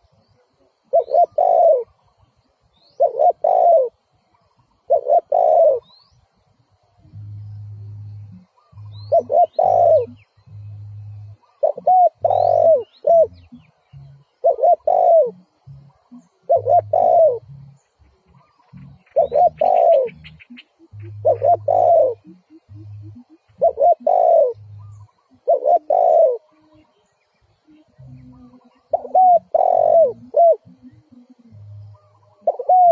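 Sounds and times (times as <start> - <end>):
dove cooing: 0.6 - 2.2, 2.8 - 6.2, 7.1 - 26.8, 27.9 - 32.9.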